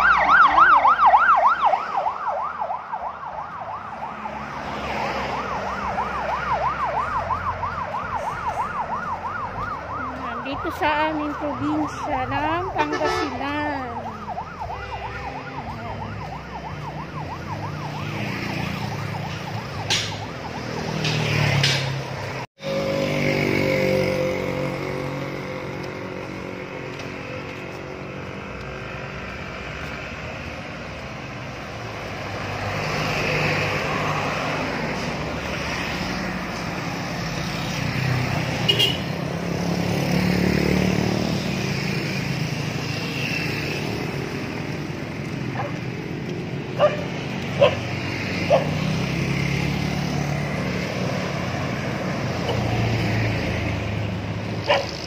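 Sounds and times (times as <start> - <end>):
vehicle engines passing: 0.0 - 55.0.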